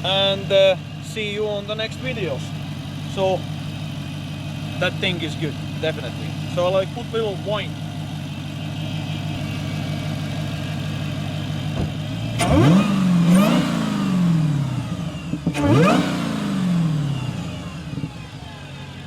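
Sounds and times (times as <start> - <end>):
car engine idling and revving: 0.0 - 19.0
supercharger whine: 0.0 - 19.0.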